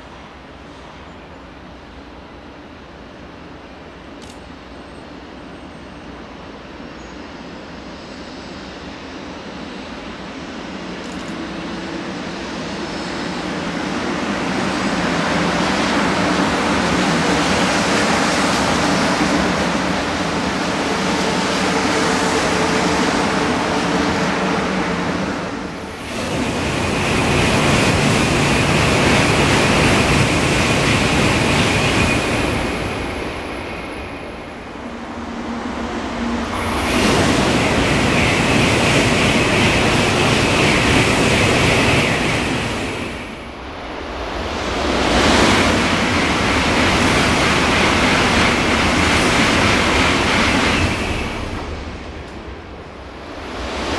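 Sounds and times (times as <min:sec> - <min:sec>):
train rushing past: 0:05.2 - 0:53.9.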